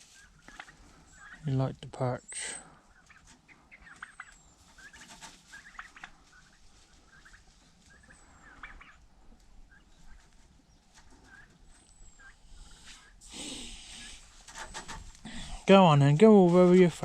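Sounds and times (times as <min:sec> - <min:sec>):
turkeys calling: 0:00.0 - 0:17.0.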